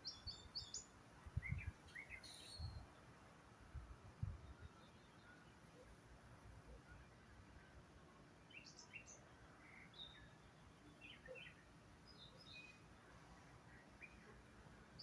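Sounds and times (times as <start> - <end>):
faint bird chirps and calls: 0.0 - 3.2, 4.2 - 15.0.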